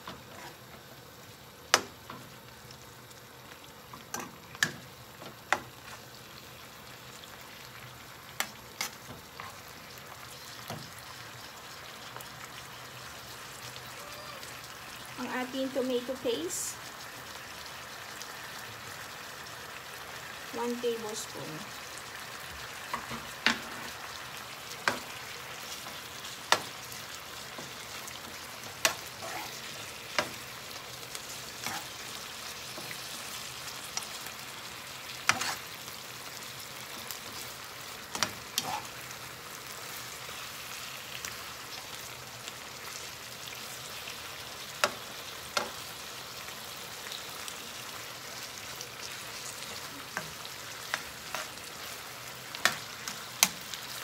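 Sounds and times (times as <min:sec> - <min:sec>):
ribs sizzling in a frying pan: 0:00.0 - 0:54.0.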